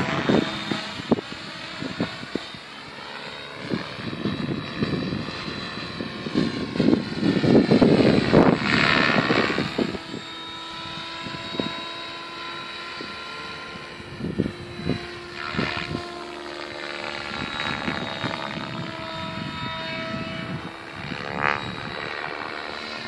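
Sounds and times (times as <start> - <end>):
model helicopter motor whine: 0.0 - 23.0.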